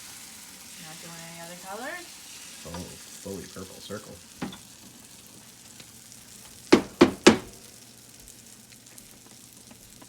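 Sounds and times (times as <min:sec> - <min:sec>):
batter sizzling on a griddle: 0:00.0 - 0:10.0.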